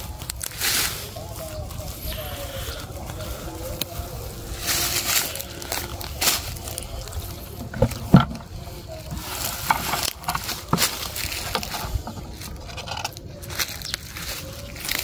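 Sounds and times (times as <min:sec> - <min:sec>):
footsteps through dry weeds: 0:00.0 - 0:15.0.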